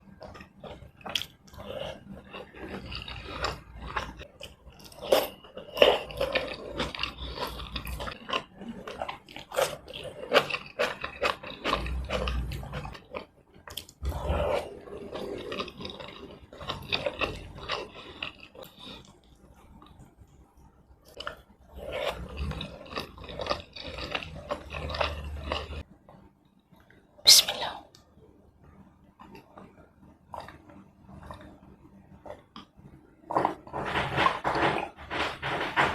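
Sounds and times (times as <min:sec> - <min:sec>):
close chewing and mouth sounds: 0:00.0 - 0:35.9.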